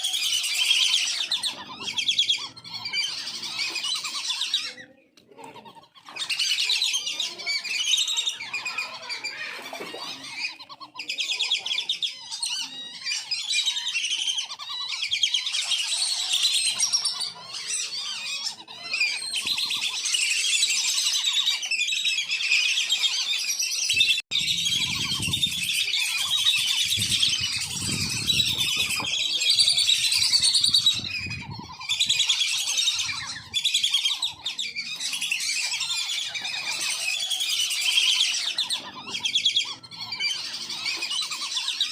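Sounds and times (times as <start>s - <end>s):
ducks whistling calls: 0.0s - 41.9s.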